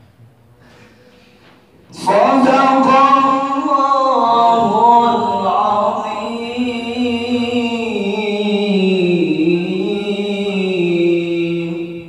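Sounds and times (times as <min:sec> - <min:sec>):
man chanting through microphone: 0:01.9 - 0:12.0.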